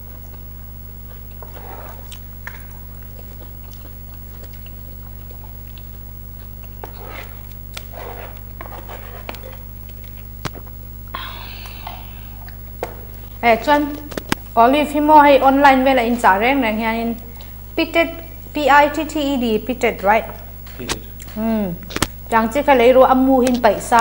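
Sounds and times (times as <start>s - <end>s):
people chewing: 0.0s - 14.6s, 17.2s - 19.1s, 19.7s - 24.0s
steady low hum: 0.0s - 24.0s.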